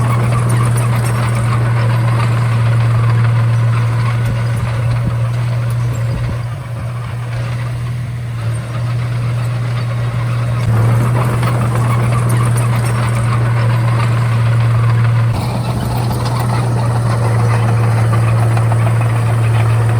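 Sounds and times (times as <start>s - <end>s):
bulldozer diesel engine humming: 0.0s - 19.9s.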